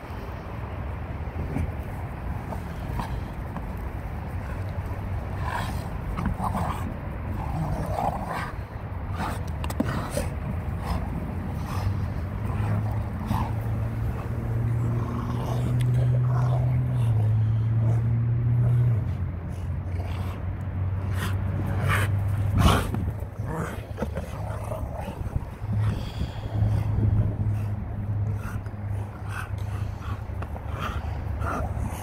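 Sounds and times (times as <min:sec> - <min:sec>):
dogs play-growling: 0:01.2 - 0:32.0.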